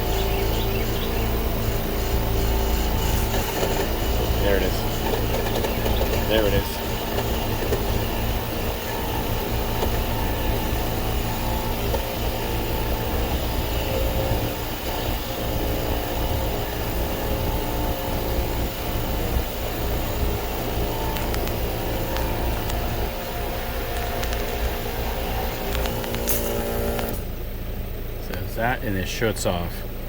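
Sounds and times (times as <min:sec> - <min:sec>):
steady hum: 0:00.0 - 0:29.7
compressor rattling rumble: 0:00.0 - 0:30.0.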